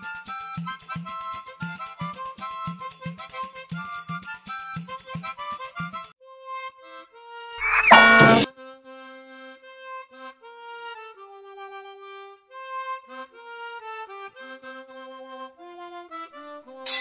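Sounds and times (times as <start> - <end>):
slow harmonica melody: 0.0 - 17.0.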